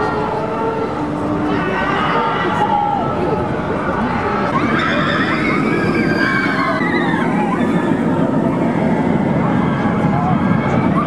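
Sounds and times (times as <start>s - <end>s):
roller coaster train rumbling: 0.0s - 11.0s.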